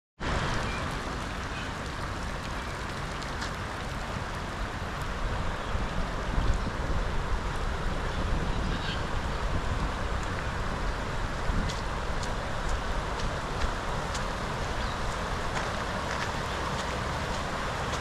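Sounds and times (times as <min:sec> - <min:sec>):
floodwater rushing: 0:00.2 - 0:18.0
wind rumbling on microphone: 0:00.2 - 0:18.0.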